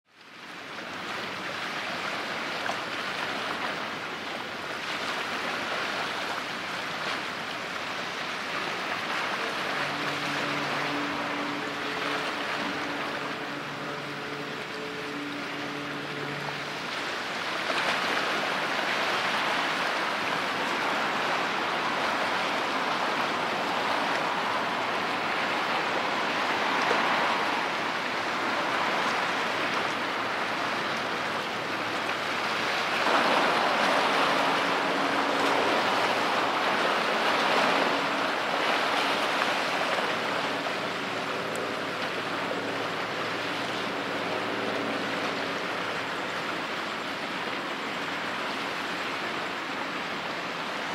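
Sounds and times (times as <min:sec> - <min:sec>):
faint boat engine hum: 0:00.1 - 0:50.9
rushing water of boat wash: 0:00.1 - 0:50.9.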